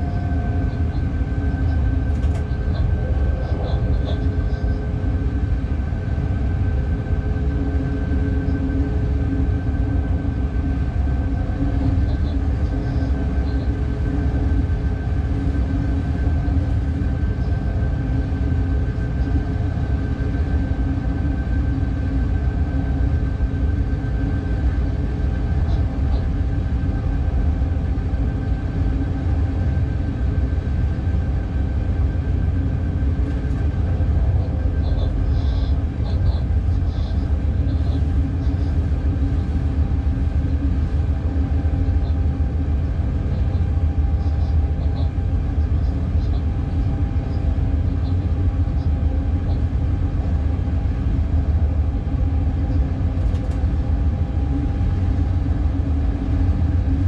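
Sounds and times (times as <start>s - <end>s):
locomotive low rumble: 0.0s - 57.0s.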